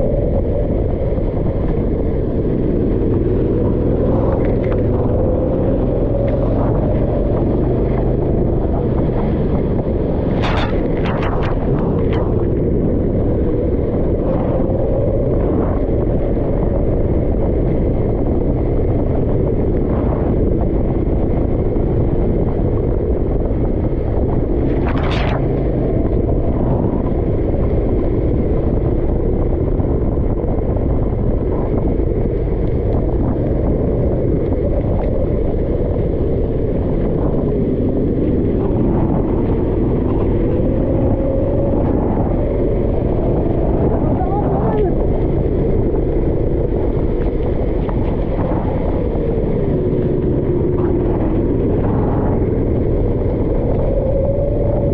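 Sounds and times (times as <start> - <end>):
wind and road noise rumble: 0.0 - 54.9.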